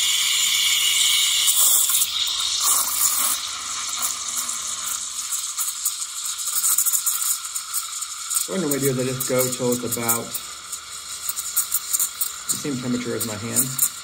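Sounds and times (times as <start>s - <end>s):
steam wand hissing: 0.0s - 14.0s.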